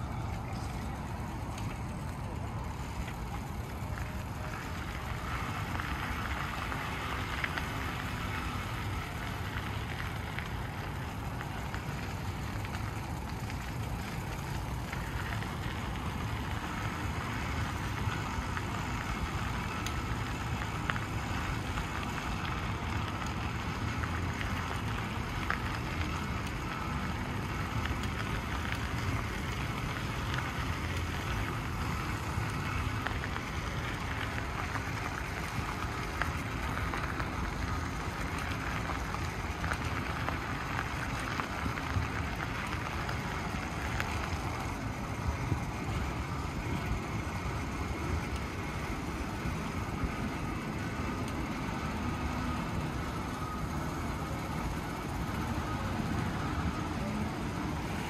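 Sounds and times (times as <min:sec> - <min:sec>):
bicycle clicking: 0:00.0 - 0:58.0
bicycle tyres on gravel: 0:00.0 - 0:58.0.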